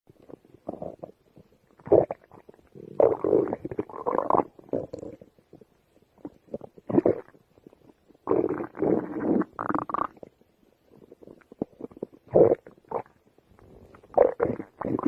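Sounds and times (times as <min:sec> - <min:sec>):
stomach growling: 0:00.1 - 0:15.0.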